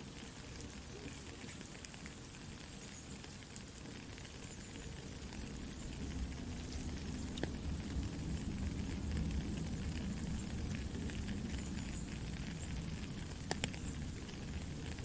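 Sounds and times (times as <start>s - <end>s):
campfire crackling: 0.0s - 15.0s
steady rain: 0.0s - 15.0s.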